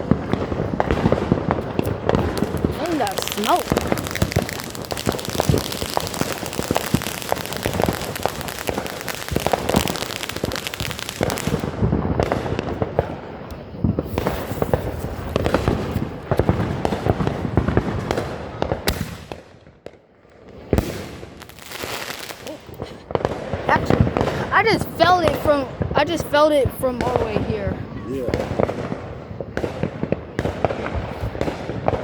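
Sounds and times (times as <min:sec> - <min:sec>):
firework bang: 0:00.0 - 0:19.9, 0:20.5 - 0:26.3, 0:26.9 - 0:32.0
fireworks popping and crackling: 0:00.0 - 0:32.0.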